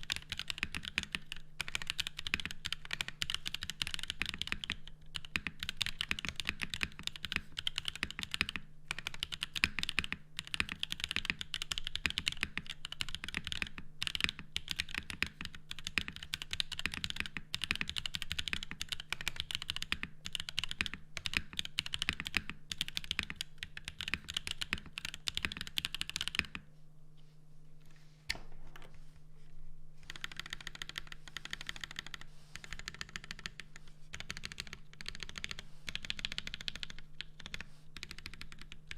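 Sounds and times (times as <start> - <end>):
mechanical keyboard typing: 0.0 - 26.6, 30.0 - 38.9.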